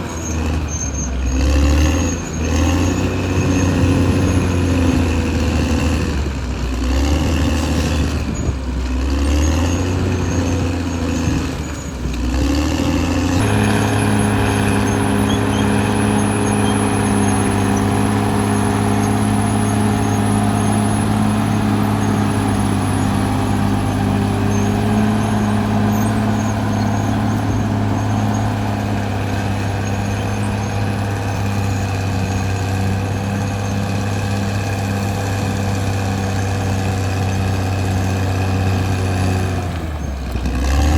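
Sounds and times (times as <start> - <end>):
bulldozer diesel engine working: 0.0 - 40.9.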